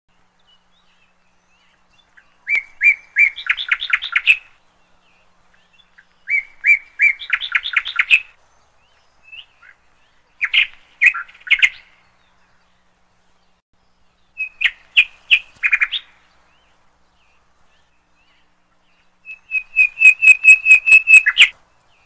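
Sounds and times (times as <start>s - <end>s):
songbird singing: 0.1s - 22.0s.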